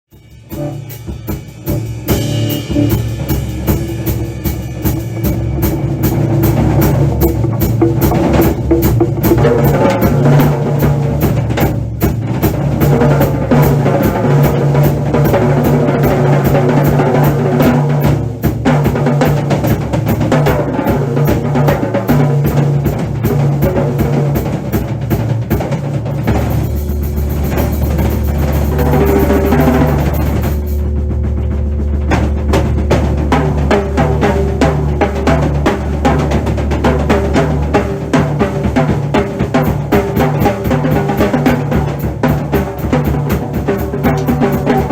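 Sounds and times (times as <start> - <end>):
drum kit solo: 0.1 - 44.9.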